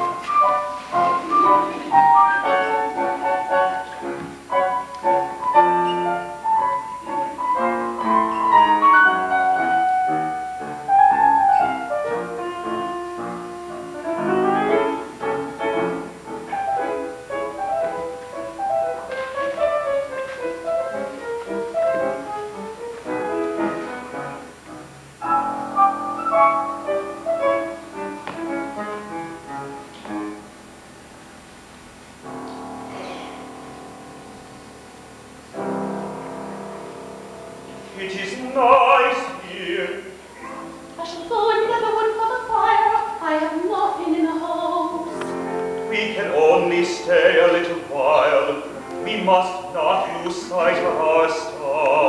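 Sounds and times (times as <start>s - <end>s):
piano playing fast notes: 0.0s - 52.0s.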